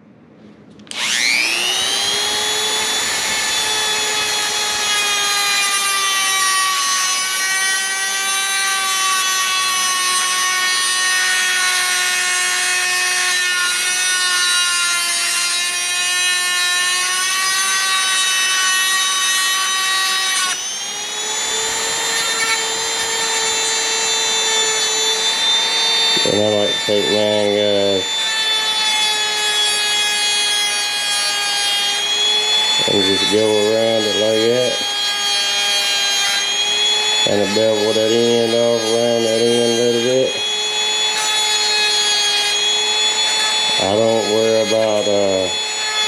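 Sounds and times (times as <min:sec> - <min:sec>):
power tool whining: 0:00.8 - 0:46.0.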